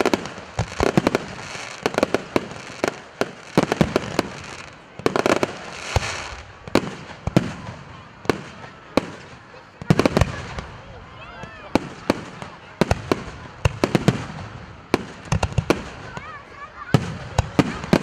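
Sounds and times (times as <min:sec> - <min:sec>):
fireworks crackling and hissing: 0:00.0 - 0:18.0.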